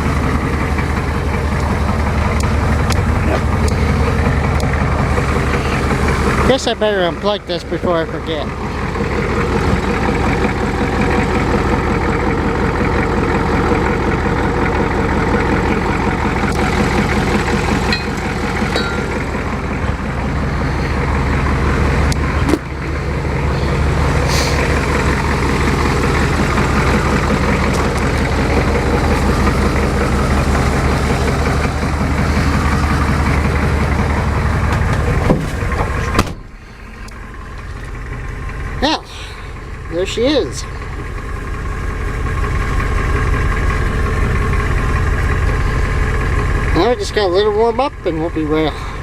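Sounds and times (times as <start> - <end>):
diesel engine idling roughly: 0.0 - 49.0.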